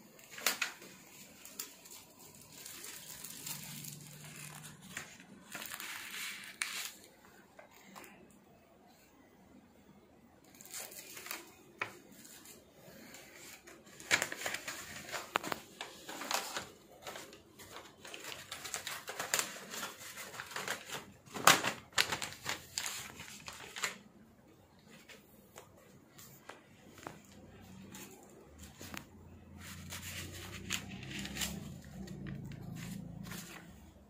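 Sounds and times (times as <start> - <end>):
banknotes rustling and crackling: 0.0 - 8.2, 10.5 - 34.0.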